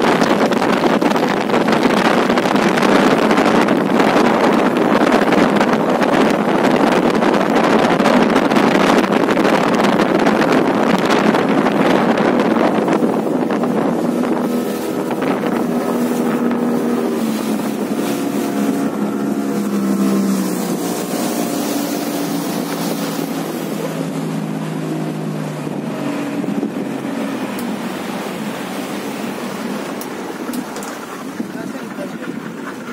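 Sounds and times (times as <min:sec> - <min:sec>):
motorboat engine running: 0:00.0 - 0:32.9
wind and water rushing: 0:00.0 - 0:32.9.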